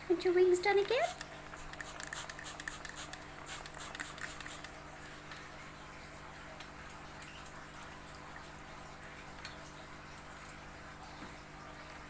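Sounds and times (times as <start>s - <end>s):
water pattering and splashing: 0.3s - 12.0s.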